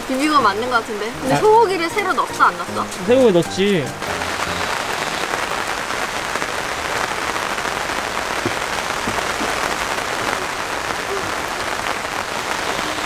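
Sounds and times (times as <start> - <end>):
rain falling on leaves: 0.0 - 13.0.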